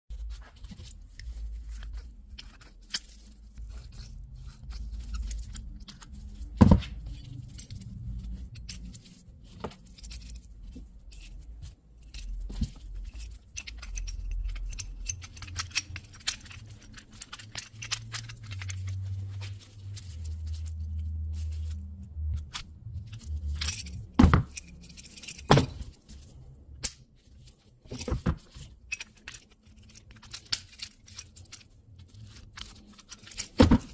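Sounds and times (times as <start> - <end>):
metal cartridges clinking: 0.6 - 20.8, 22.4 - 26.0, 27.9 - 31.7, 32.3 - 33.9.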